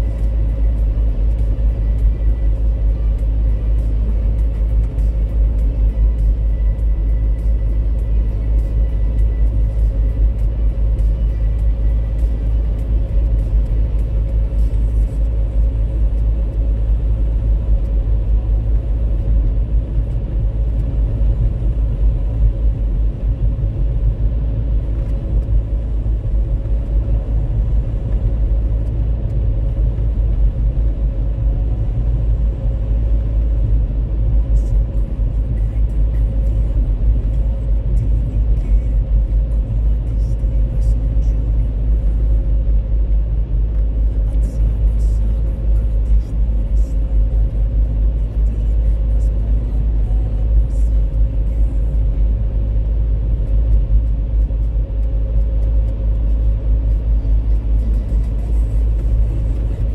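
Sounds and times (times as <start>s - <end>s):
car engine and tyres rumbling: 0.0s - 59.9s
faint steady hum: 0.0s - 59.9s.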